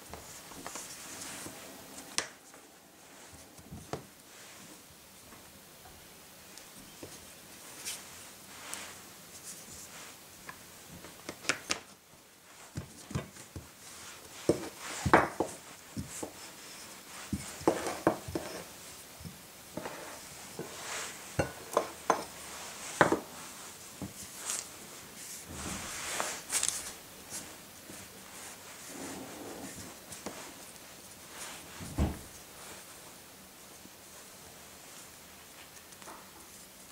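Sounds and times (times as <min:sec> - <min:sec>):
rubbing and handling noise: 0:00.0 - 0:05.5, 0:06.6 - 0:36.9.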